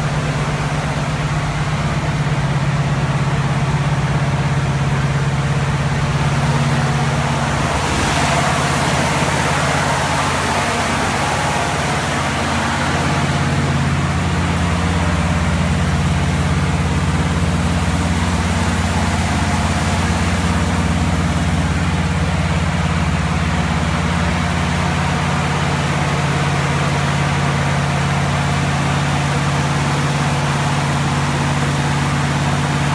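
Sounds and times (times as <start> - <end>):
truck engine running steadily: 0.0 - 32.9.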